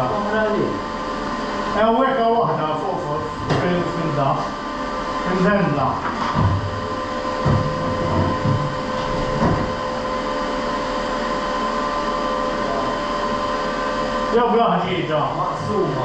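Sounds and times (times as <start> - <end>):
machine running with whine: 0.0 - 16.0.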